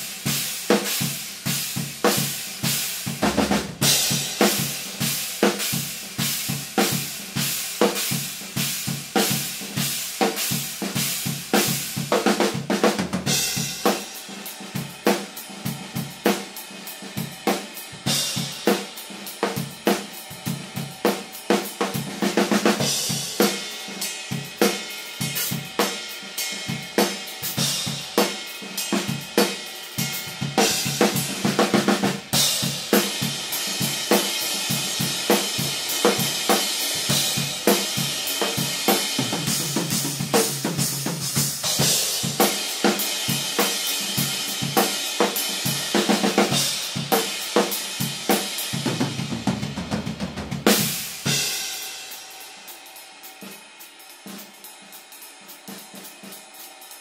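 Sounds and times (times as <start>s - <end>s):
hi-hats and ride cymbal: 0.0s - 57.0s
snare and bass drum strokes: 0.0s - 57.0s.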